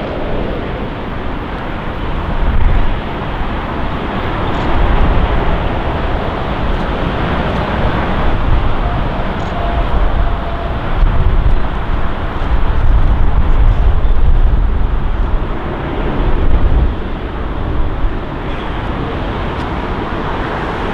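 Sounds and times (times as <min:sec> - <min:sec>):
jet engines rumbling: 0:00.0 - 0:20.9.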